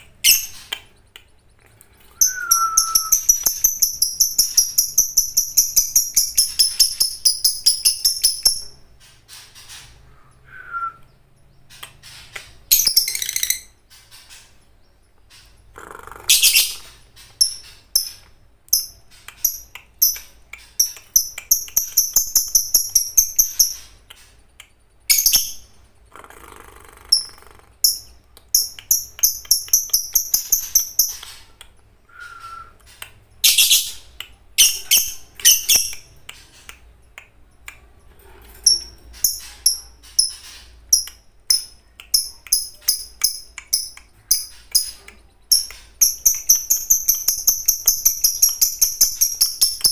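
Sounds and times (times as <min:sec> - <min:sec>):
lovebird chattering chirps: 0:00.0 - 0:10.0, 0:11.4 - 0:31.6, 0:32.8 - 0:49.9.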